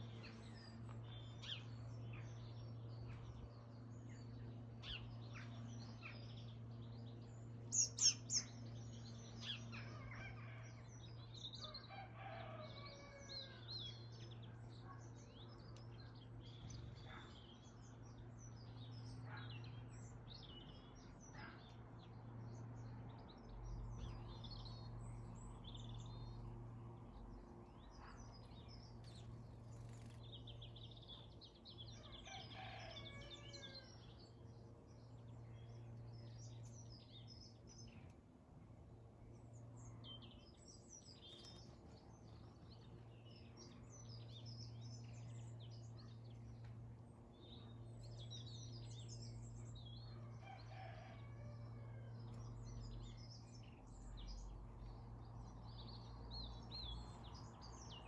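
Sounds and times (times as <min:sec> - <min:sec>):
birds chirping and twittering: 0:00.0 - 0:58.0
faint low hum: 0:00.0 - 0:58.0.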